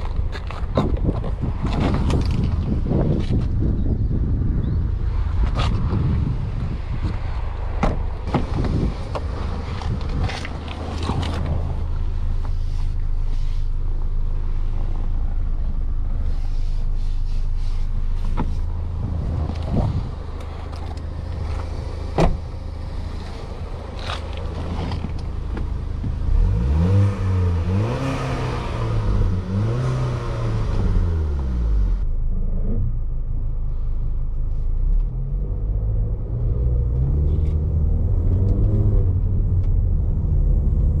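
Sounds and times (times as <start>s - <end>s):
car engine idling and revving: 0.0s - 41.0s.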